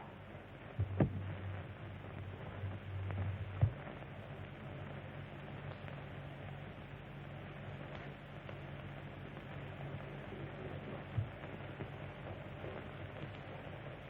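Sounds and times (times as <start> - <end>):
film soundtrack hiss and hum: 0.0 - 14.0.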